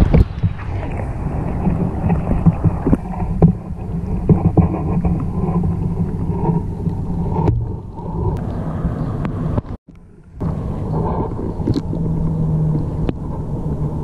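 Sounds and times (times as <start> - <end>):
muffled underwater water sloshing: 0.0 - 14.0.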